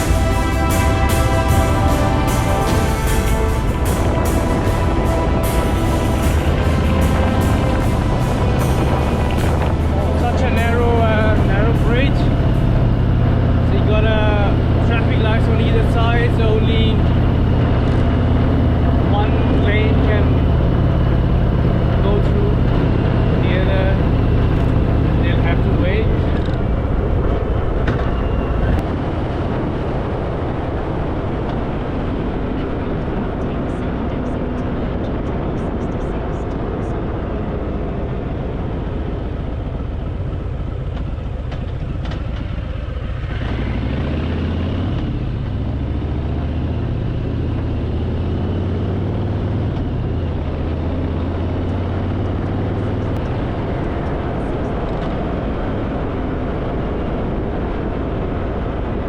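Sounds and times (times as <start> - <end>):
motorcycle engine running: 0.0 - 33.3, 34.8 - 59.0
wind noise: 0.0 - 59.0.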